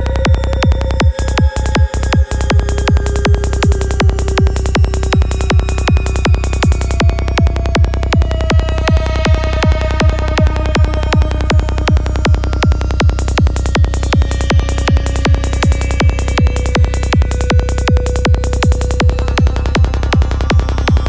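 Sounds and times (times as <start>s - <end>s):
kick drum: 0.0s - 21.0s
rolling bassline: 0.0s - 21.0s
hissing hi-hat pattern: 0.1s - 21.0s.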